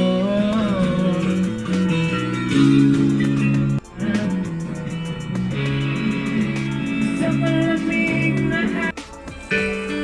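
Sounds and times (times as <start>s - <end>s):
guitar music with steady beat: 0.0s - 10.0s.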